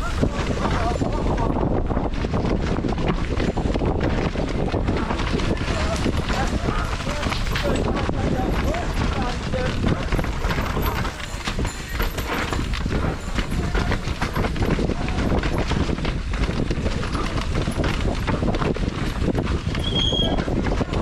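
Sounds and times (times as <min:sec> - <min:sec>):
mountain bike rattling over trail: 0:00.0 - 0:21.0
wind rumble on microphone: 0:00.0 - 0:21.0.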